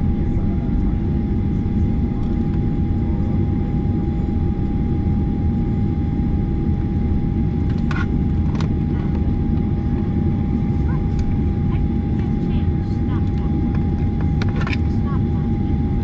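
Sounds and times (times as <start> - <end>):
airplane cabin low rumble: 0.0 - 16.0.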